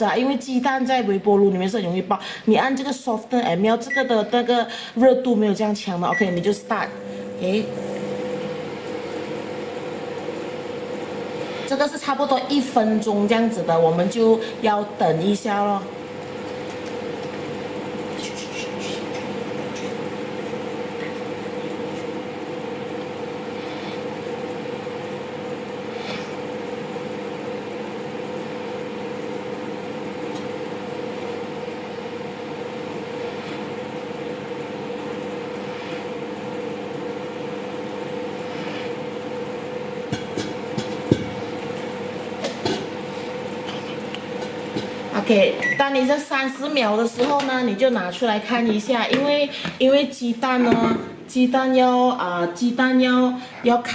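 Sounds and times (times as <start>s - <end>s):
microwave oven humming: 0.0s - 53.9s.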